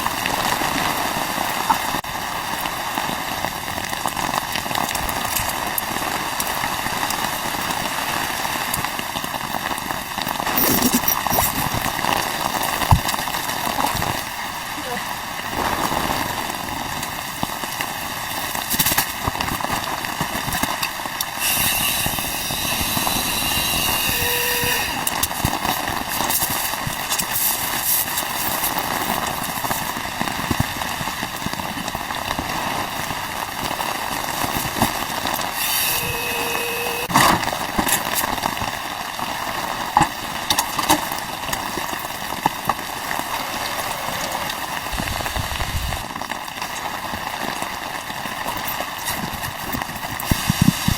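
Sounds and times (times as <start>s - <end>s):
rain pattering on tent fabric: 0.0s - 50.9s.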